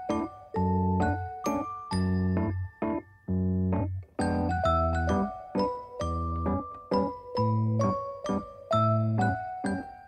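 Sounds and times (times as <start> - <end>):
keyboard melody: 0.0 - 10.0.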